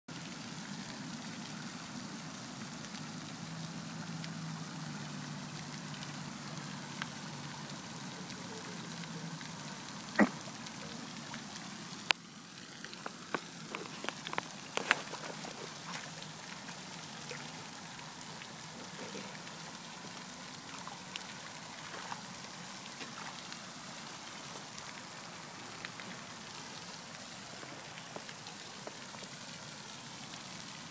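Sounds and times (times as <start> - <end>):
steady hiss: 0.1 - 30.9.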